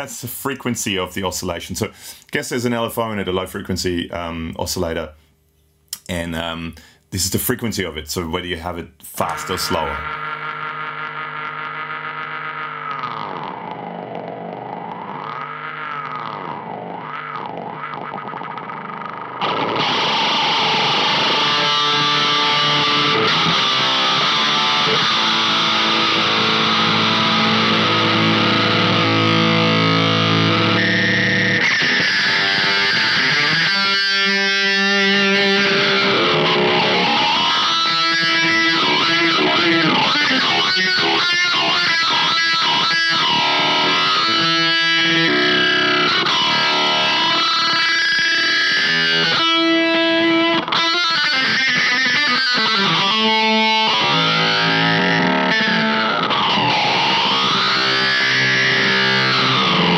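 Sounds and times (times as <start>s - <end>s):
distorted electric guitar with filter: 8.7s - 59.9s.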